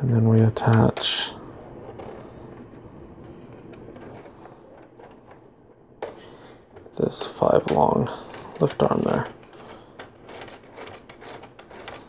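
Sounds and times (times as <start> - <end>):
low background hum: 0.0 - 12.0
plastic parts clicking: 1.8 - 12.0.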